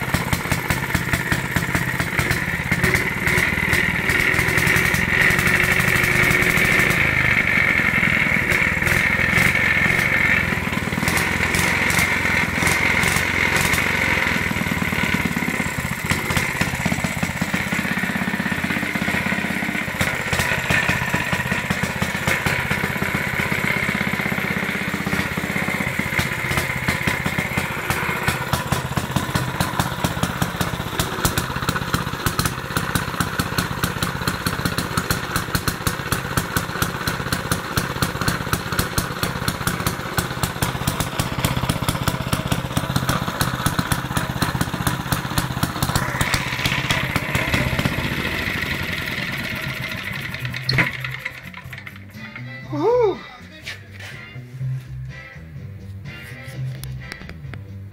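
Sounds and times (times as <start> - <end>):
two-stroke engine running: 0.0 - 53.2.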